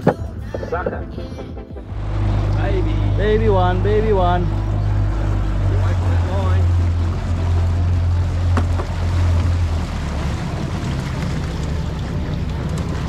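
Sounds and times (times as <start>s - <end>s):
outboard motor running: 1.8s - 13.0s
water rushing: 1.8s - 13.0s.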